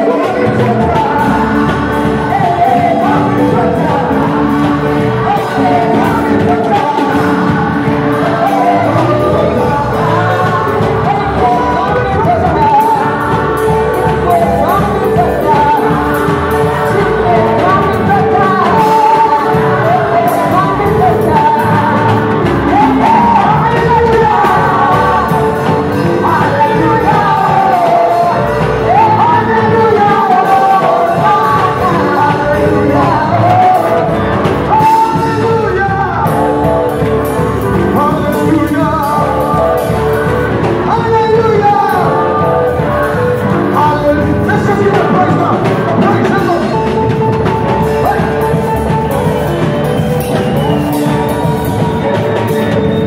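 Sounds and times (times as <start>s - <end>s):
amplified band playing: 0.0s - 53.0s
group singing gospel: 0.0s - 53.0s.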